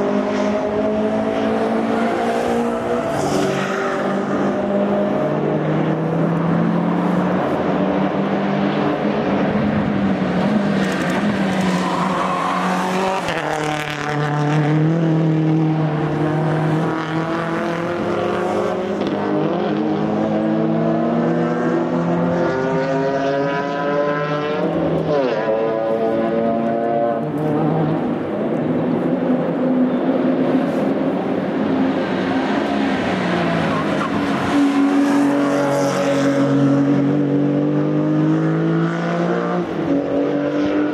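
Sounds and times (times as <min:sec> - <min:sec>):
race car engines revving: 0:00.0 - 0:40.9.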